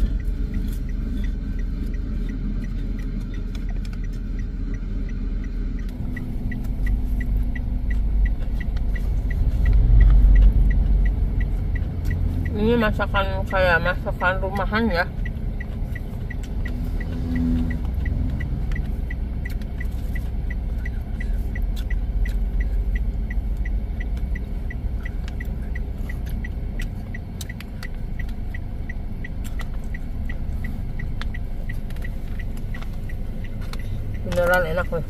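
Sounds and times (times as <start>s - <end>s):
high-pitched ticking: 0.0s - 35.0s
low engine rumble: 0.0s - 35.0s.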